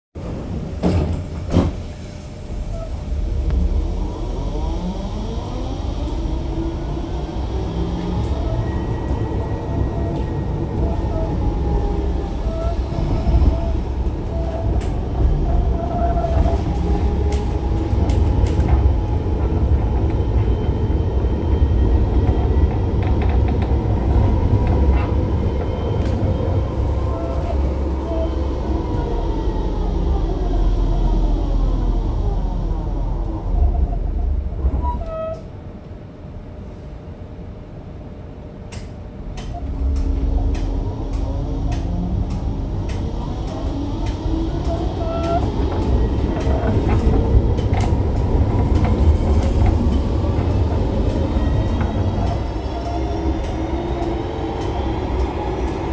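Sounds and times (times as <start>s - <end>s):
tram motor whine: 0.2s - 36.6s, 37.9s - 55.9s
tram rumbling over rails: 0.2s - 55.9s.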